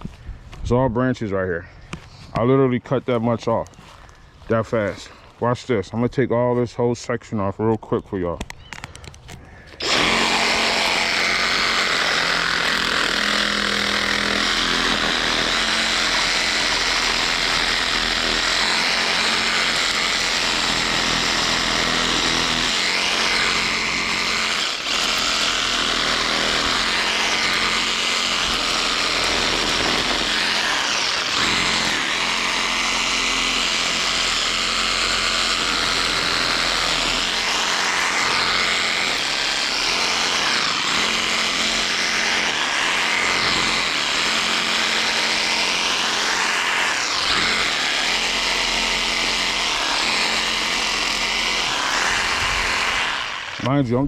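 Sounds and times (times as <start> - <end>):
reciprocating saw cutting branches: 9.3 - 54.0.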